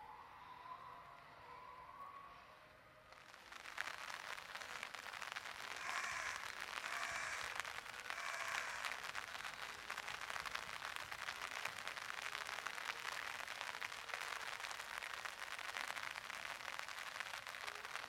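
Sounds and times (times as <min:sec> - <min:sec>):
rain pattering on surfaces: 0:03.1 - 0:18.0.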